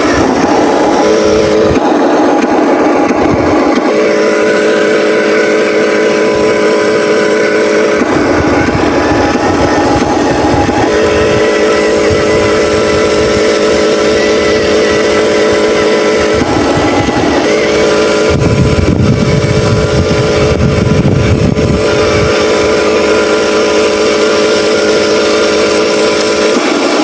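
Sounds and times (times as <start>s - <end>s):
simulated diesel truck engine: 0.0s - 27.0s.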